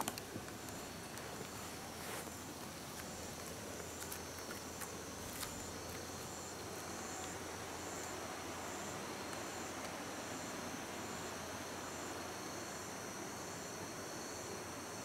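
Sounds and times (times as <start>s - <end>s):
insect trill: 0.0s - 15.0s
insects chirping: 0.0s - 15.0s.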